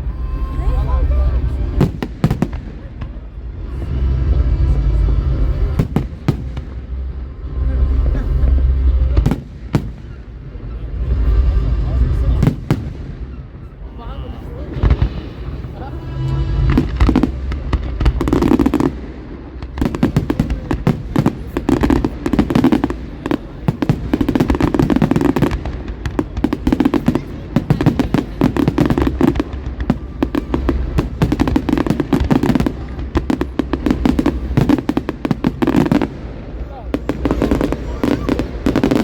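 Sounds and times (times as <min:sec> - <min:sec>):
fireworks cracks and bangs: 0:00.1 - 0:39.0.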